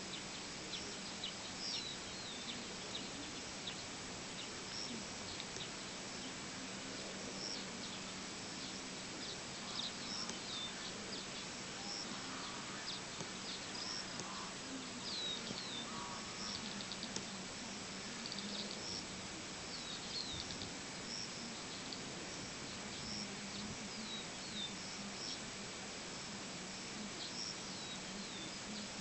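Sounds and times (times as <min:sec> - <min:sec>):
faint low hum: 0:00.0 - 0:29.0
outdoor hiss: 0:00.0 - 0:29.0
small birds chirping: 0:00.0 - 0:29.0.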